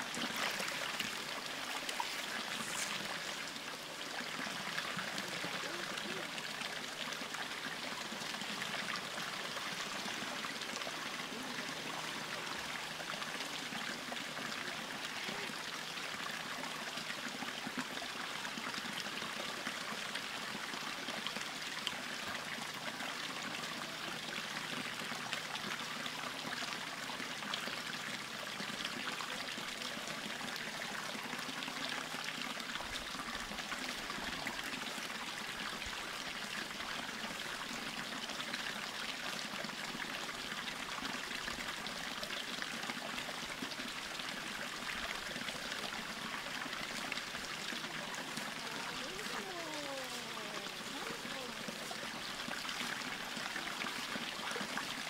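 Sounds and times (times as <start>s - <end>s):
water flowing over rocks: 0.0s - 55.0s.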